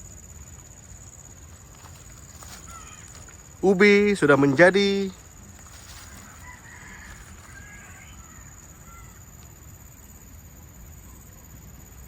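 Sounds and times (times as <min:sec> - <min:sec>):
faint birds calling: 0:00.0 - 0:10.0
high-pitched insect drone: 0:00.0 - 0:12.0.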